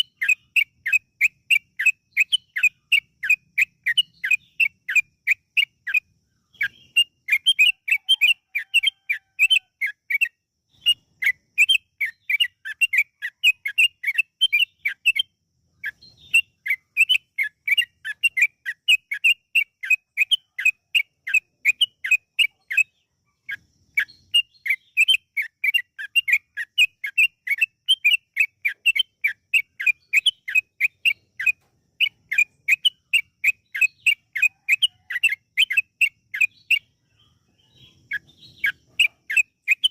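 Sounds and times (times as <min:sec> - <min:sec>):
bulbul singing rapid chirps: 0:00.0 - 0:39.9.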